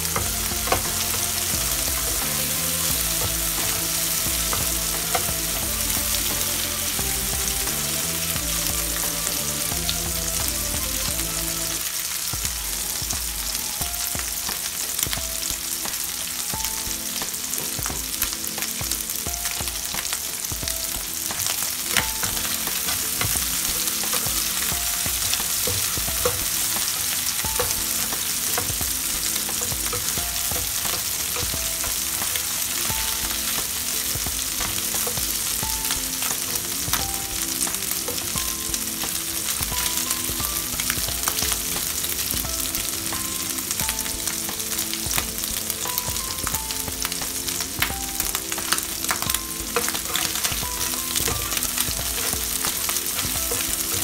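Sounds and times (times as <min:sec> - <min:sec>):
shrimp sizzling in oil: 0:00.0 - 0:54.0.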